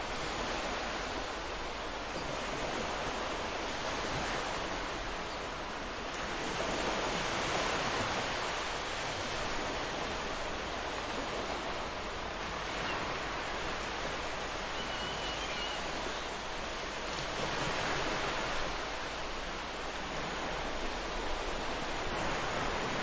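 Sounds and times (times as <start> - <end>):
ocean surf washing onto beach: 0.0 - 23.0.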